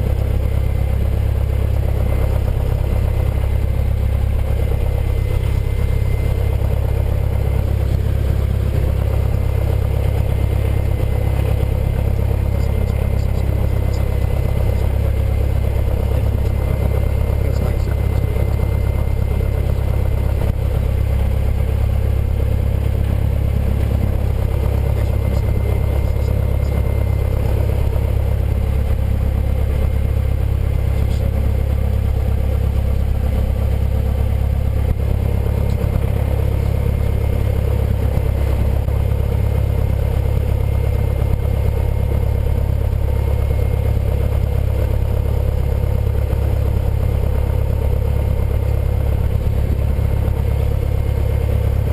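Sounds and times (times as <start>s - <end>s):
small plane engine droning: 0.0s - 51.9s.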